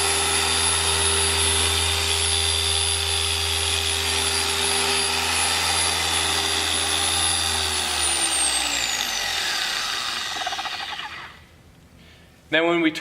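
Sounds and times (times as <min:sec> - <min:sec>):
electric polisher whine: 0:00.0 - 0:11.4.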